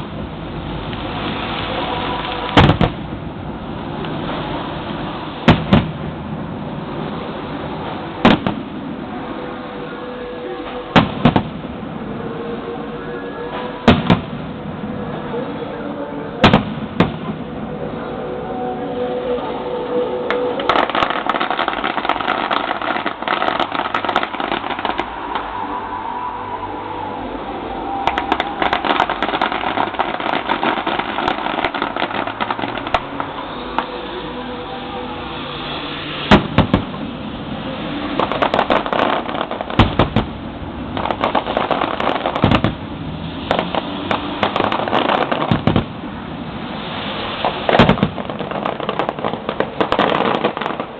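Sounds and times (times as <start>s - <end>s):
fireworks bursting with sharp bangs: 0.0s - 15.6s, 16.2s - 18.2s, 19.0s - 25.7s, 27.9s - 50.9s
background noise: 0.0s - 50.9s
steady background noise: 0.0s - 50.9s.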